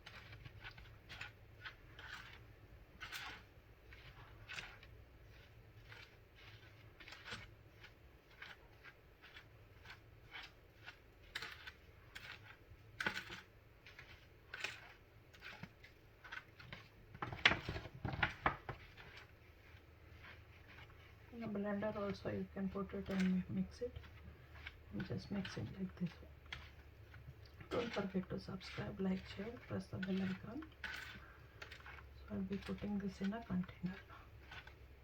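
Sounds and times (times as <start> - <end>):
spoon scraping spice powder in bowl: 0.0 - 35.0.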